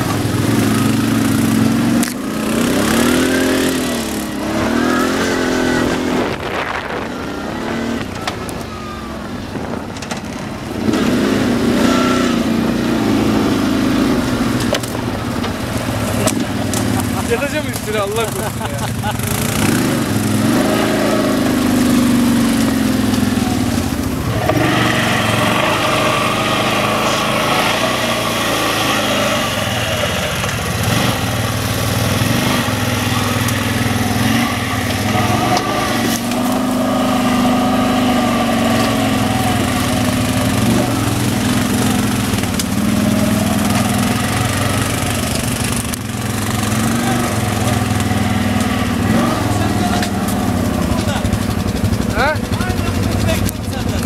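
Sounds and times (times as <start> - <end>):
other atv engines: 0.0 - 54.0
quad bike engine revving: 0.0 - 54.0.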